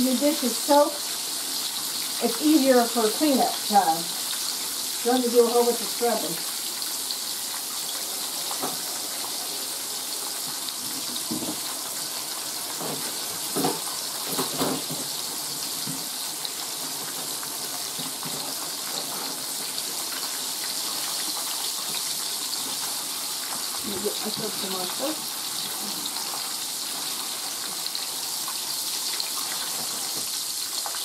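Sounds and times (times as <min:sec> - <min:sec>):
steak sizzling in hot oil: 0:00.0 - 0:31.0.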